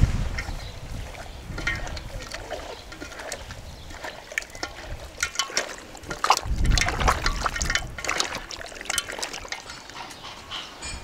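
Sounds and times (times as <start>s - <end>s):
hands squelching in marinade: 0.4s - 10.5s.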